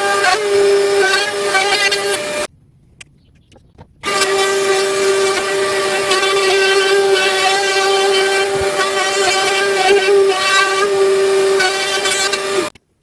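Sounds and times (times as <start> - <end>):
router whining: 0.0 - 2.5, 4.0 - 12.7.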